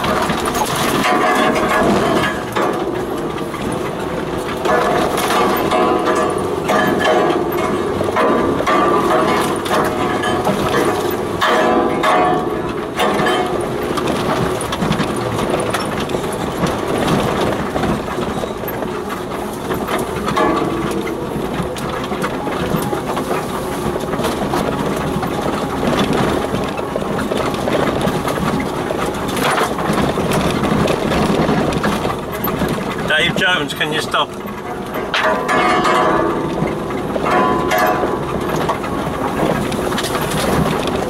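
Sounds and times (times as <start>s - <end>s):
body and suspension rattles: 0.0s - 41.0s
vehicle engine running: 0.0s - 41.0s
wheels knocking over ruts: 0.0s - 41.0s.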